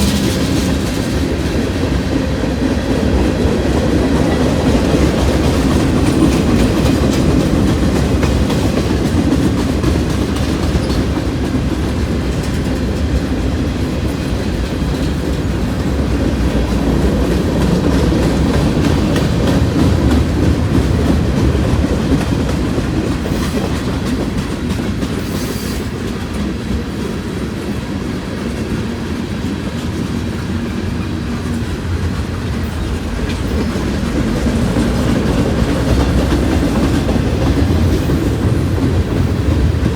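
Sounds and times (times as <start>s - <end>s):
freight train rumble: 0.0s - 39.9s
train wheels clacking over rail joints: 0.0s - 39.9s.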